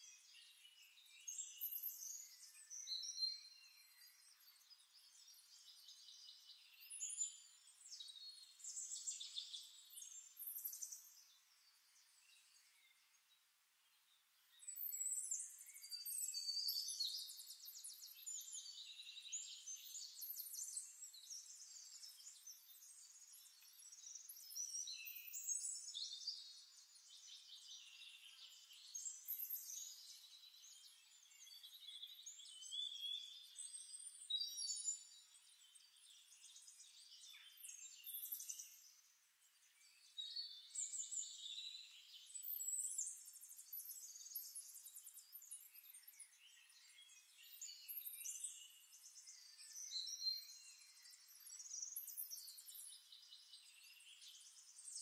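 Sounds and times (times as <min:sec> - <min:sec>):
faint high-pitched chirping: 0:00.0 - 0:55.0.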